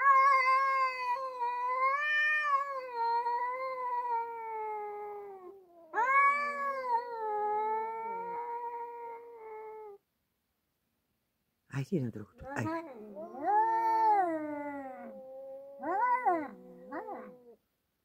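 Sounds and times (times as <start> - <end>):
cat yowling: 0.0 - 10.0, 12.4 - 17.6.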